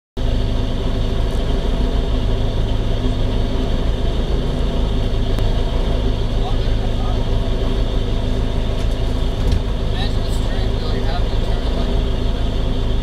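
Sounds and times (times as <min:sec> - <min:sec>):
car engine idling: 0:00.2 - 0:13.0.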